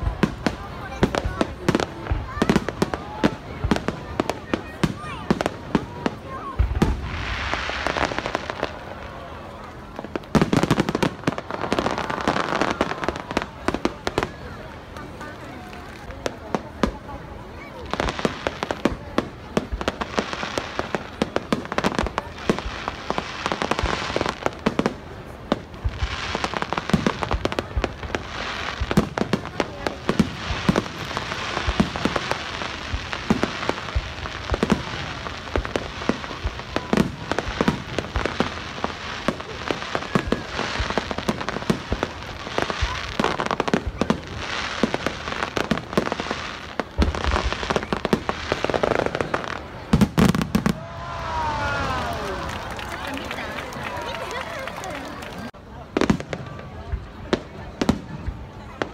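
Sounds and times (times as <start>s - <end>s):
fireworks crackling: 0.0s - 58.9s.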